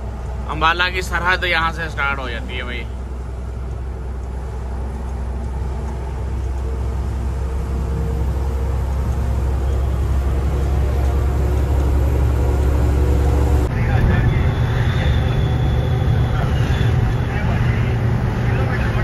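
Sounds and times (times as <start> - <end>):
road noise: 0.0 - 19.0
truck engine drone inside cab: 0.0 - 19.0.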